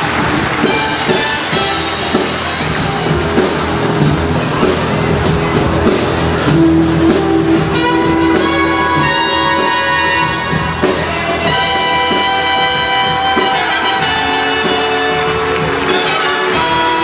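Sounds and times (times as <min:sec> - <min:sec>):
drum beat: 0:00.0 - 0:17.0
long held chords: 0:00.0 - 0:17.0.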